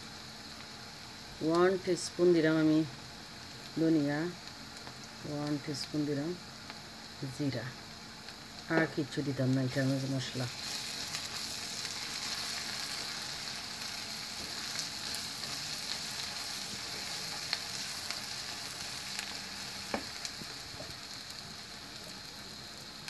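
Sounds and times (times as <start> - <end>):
onions sizzling in oil: 0.0 - 23.0.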